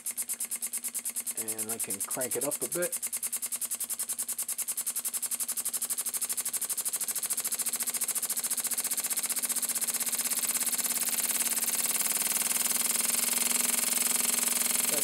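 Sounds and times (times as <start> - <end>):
model engine chuffing air: 0.0 - 15.0.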